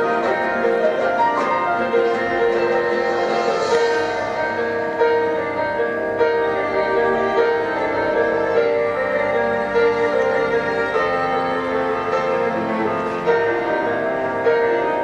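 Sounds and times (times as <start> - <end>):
gentle piano instrumental: 0.0 - 15.0.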